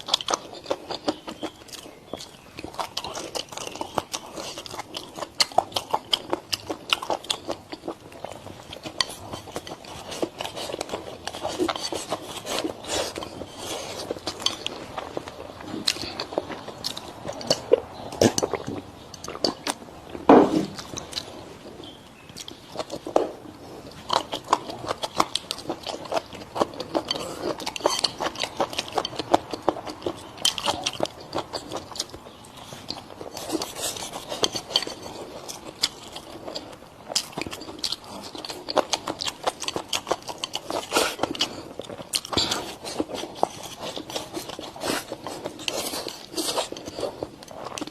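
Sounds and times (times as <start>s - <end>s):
mouth chewing crunchy food: 0.0s - 47.9s.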